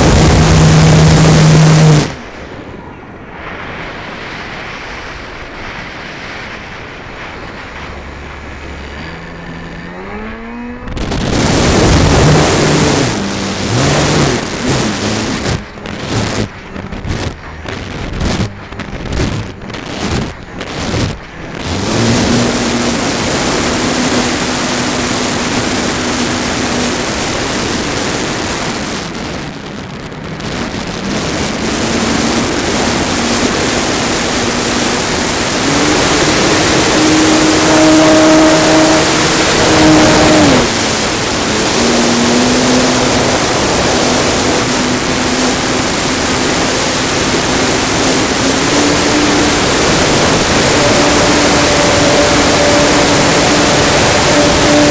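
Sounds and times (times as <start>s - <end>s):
electric motor and propeller whine: 0.0s - 29.5s, 30.3s - 54.9s
wind rushing over camera: 0.0s - 54.9s.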